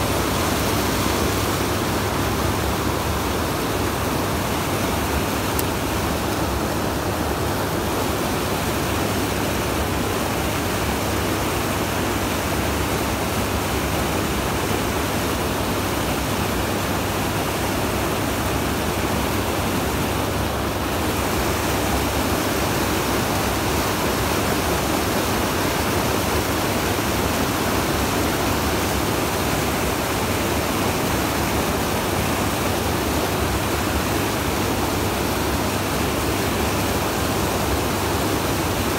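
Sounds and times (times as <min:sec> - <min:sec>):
churning white water rushing: 0:00.0 - 0:38.9.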